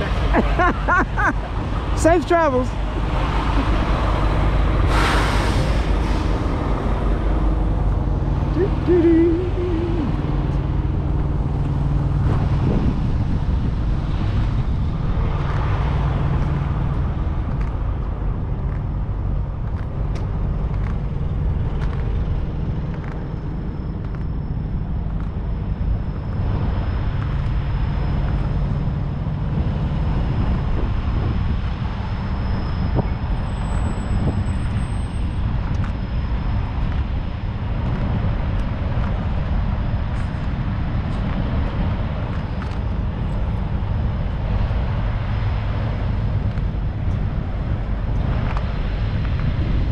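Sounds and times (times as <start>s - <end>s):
diesel truck engines rumbling: 0.0s - 49.9s.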